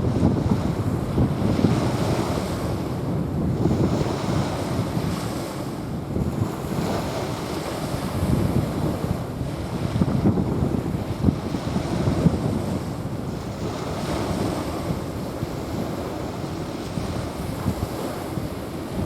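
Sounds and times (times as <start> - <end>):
small waves washing on beach: 0.0 - 19.0
wind buffeting microphone: 0.0 - 19.0.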